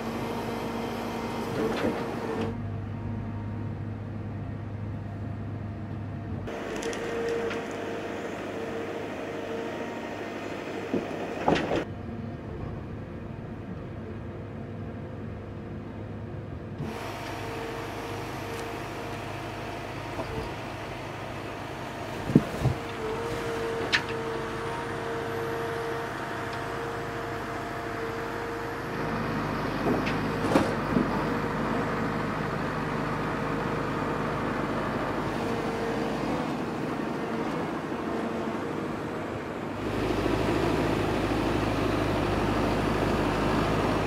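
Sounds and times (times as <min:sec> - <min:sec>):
diesel engine running: 0:00.0 - 0:44.0
hydraulic crane working: 0:00.0 - 0:44.0.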